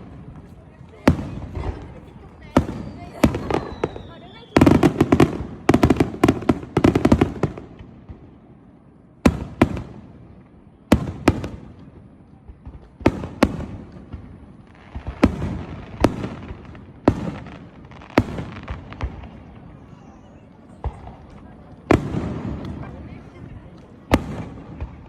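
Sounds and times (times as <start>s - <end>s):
fireworks bangs with echo: 0.0s - 25.0s
fireworks crackling: 0.0s - 25.0s.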